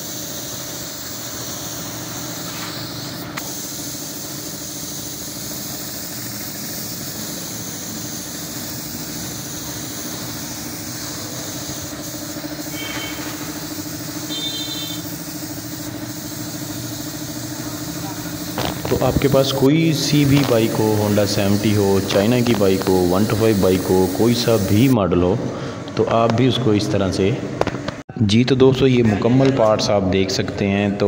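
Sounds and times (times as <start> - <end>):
paint spray gun hissing: 0.0 - 25.0
air compressor humming: 0.0 - 28.0.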